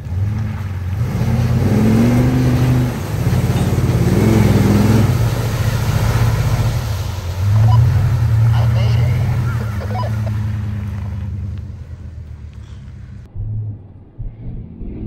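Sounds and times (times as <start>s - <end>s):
engine revving under load: 0.0s - 13.6s.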